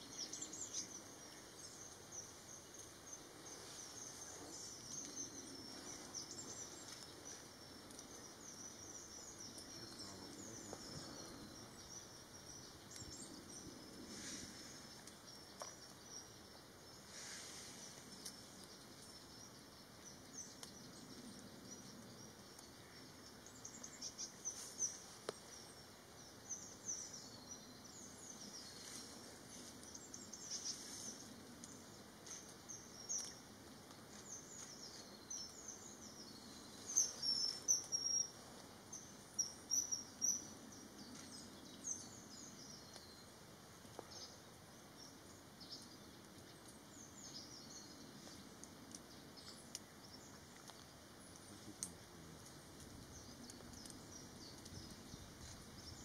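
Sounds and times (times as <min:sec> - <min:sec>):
low background hiss: 0:00.0 - 0:56.0
songbirds chirping: 0:00.0 - 0:56.0.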